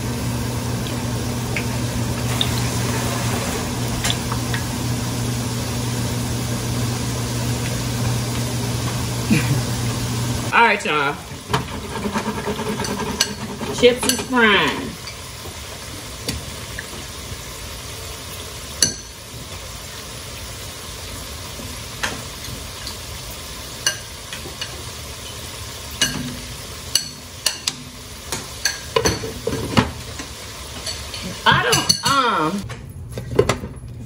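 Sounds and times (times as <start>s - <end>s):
chips sizzling in hot oil: 0.0s - 32.7s.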